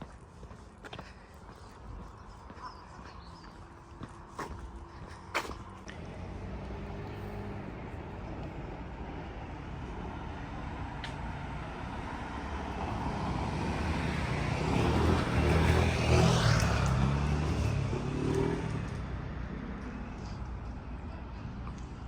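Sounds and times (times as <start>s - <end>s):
vehicle passing by: 2.7s - 22.0s.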